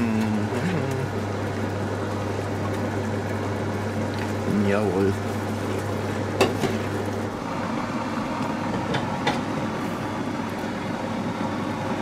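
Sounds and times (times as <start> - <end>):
air fryer fan running: 0.0 - 12.0.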